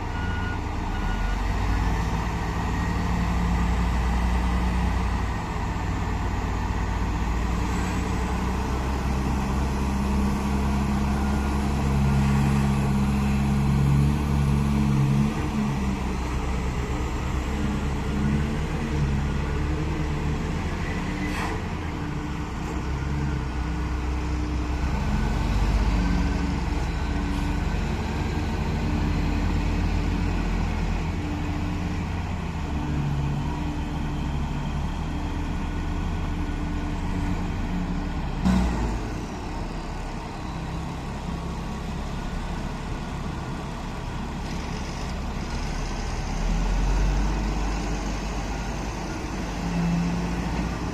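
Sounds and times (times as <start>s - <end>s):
heavy diesel engines working: 0.0s - 50.9s.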